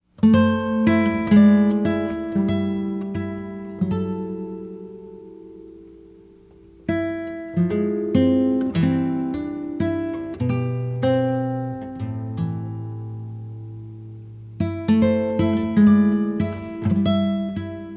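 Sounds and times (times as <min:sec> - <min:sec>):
acoustic guitar playing: 0:00.0 - 0:17.9.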